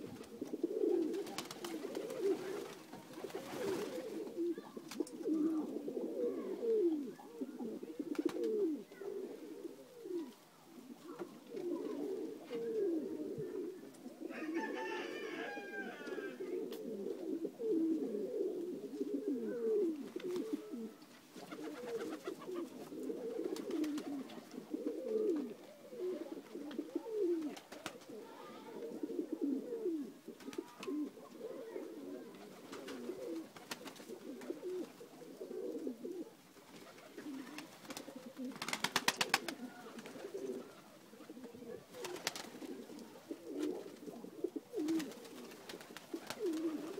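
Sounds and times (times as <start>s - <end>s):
pigeons cooing: 0.0s - 46.9s.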